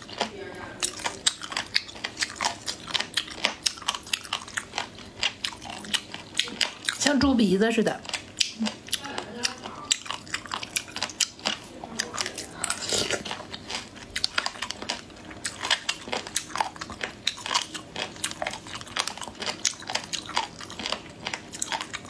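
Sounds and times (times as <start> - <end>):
food crunching: 0.0 - 22.0.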